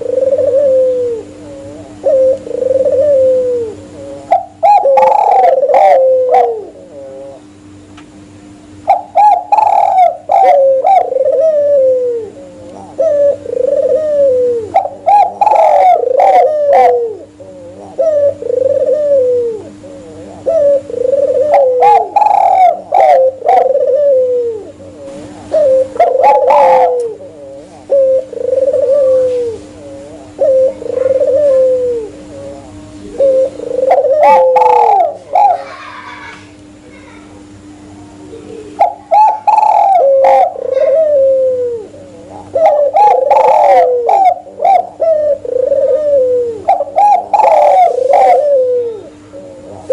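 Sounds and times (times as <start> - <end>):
doves cooing: 0.0 - 36.8, 37.4 - 49.9
steady low hum: 0.0 - 49.9.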